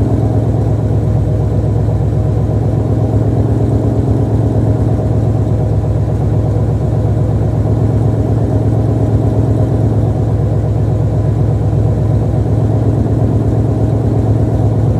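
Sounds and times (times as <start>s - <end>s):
car engine idling loudly: 0.0s - 14.9s.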